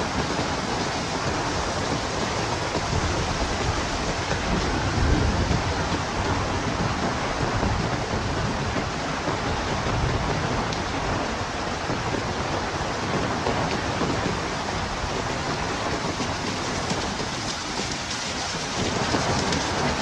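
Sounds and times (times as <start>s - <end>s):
heavy rain with wind: 0.0s - 20.0s.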